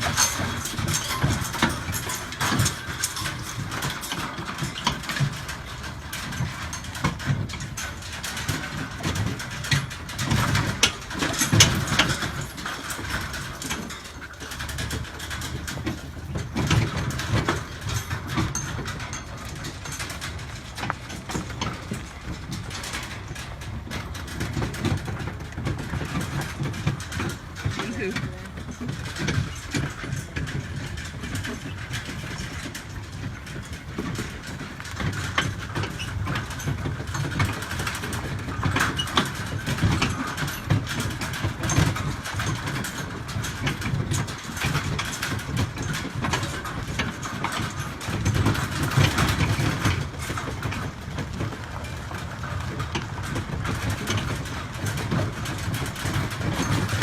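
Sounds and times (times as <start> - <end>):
rattles and knocks: 0.0 - 57.0
utility cart engine running: 0.0 - 57.0.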